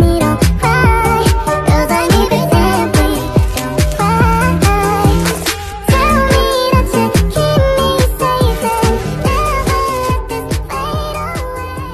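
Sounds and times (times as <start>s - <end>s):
electronic dance music: 0.0s - 11.9s
kick drum beat: 0.0s - 11.9s.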